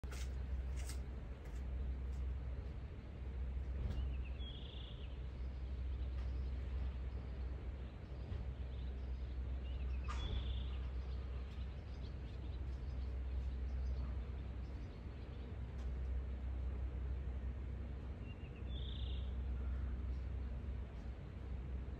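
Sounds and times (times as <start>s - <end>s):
low background rumble: 0.0s - 21.9s.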